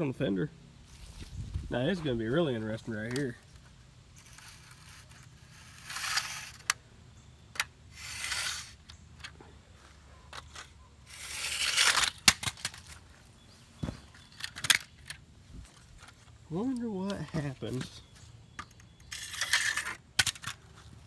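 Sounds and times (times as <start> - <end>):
toy truck tyres scraping ground: 0.8 - 21.0.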